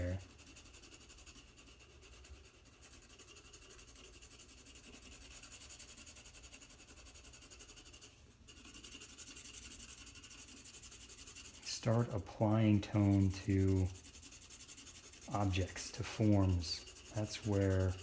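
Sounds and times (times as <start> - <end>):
charcoal pencil shading on paper: 0.0 - 18.0.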